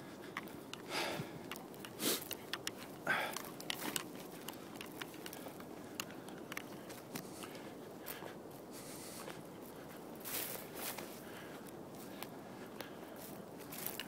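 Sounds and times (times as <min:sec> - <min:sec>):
footsteps on dry grass and stones: 0:00.0 - 0:14.0.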